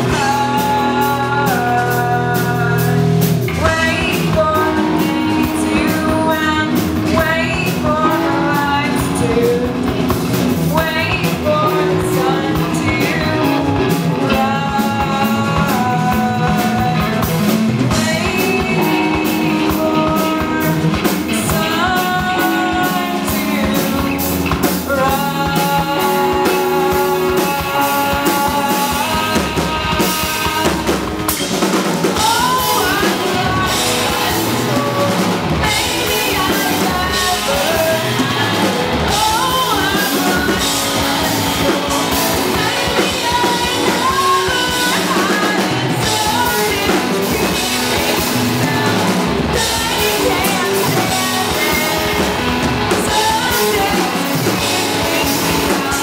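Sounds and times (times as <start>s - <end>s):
drum kit: 0.0s - 56.0s
electric guitars: 0.0s - 56.0s
woman singing: 0.0s - 56.0s.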